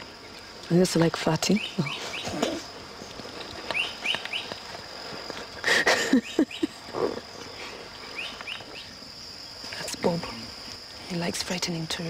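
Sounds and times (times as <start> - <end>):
high insect whine: 0.0 - 12.0.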